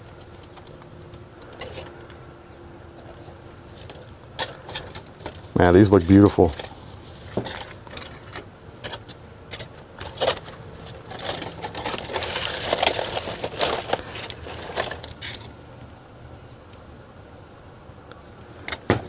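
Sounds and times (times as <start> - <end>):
rustling and scraping: 0.0 - 15.6.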